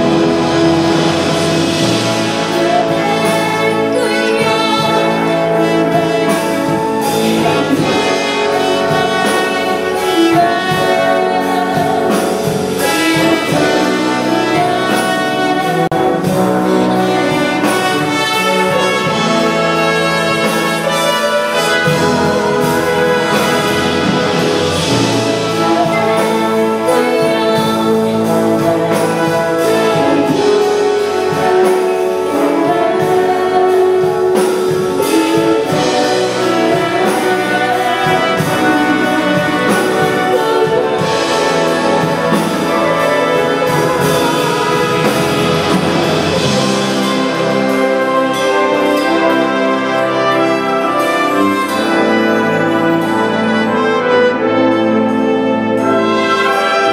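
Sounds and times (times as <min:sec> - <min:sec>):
wind band playing: 0:00.0 - 0:56.9.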